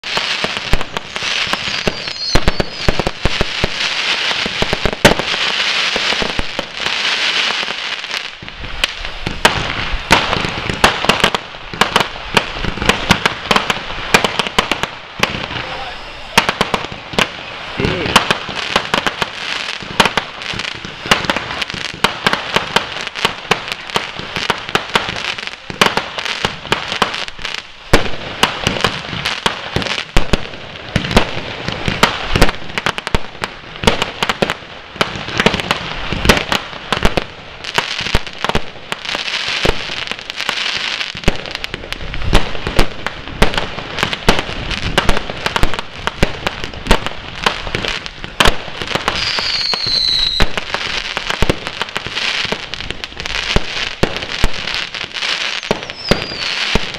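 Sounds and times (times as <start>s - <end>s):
fireworks bangs: 0.0s - 56.9s
fireworks crackling: 0.0s - 56.9s.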